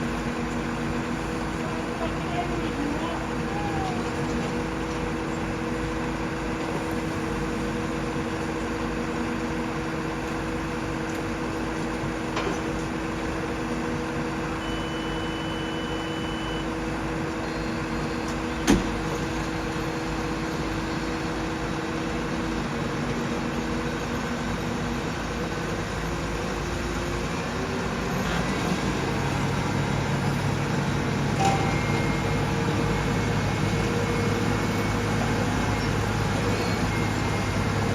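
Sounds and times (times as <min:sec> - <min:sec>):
turboprop engines droning: 0:00.0 - 0:37.9.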